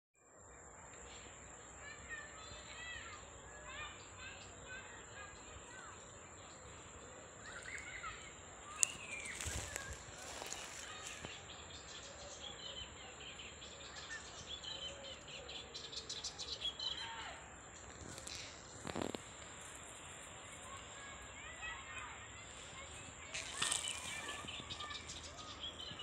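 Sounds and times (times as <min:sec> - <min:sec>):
small birds chirping: 0:00.5 - 0:26.0.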